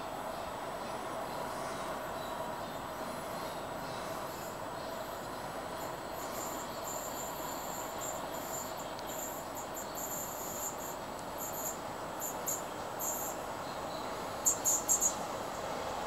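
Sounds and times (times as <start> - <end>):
insects chirping: 1.2 - 15.8.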